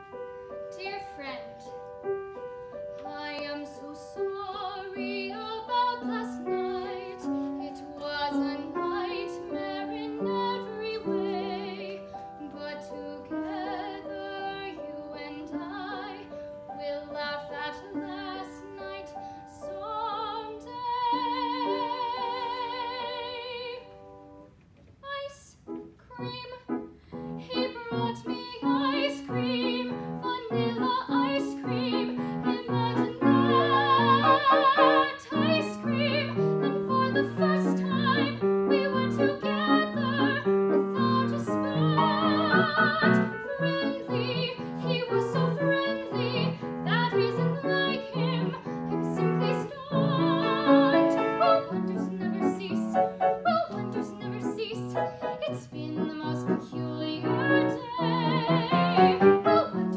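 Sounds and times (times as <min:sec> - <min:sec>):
piano accompaniment: 0:00.0 - 0:24.6, 0:25.5 - 0:59.9
woman singing classical with vibrato: 0:00.7 - 0:01.8, 0:03.0 - 0:24.2, 0:25.0 - 0:59.9.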